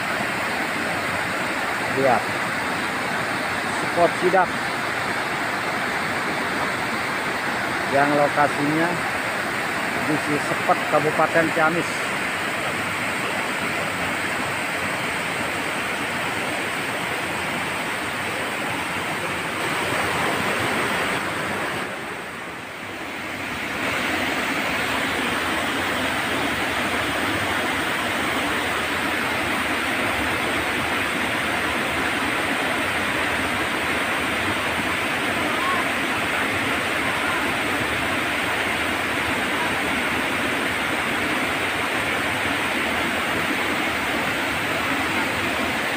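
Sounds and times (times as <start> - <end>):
river water rushing over rocks: 0.0 - 45.9.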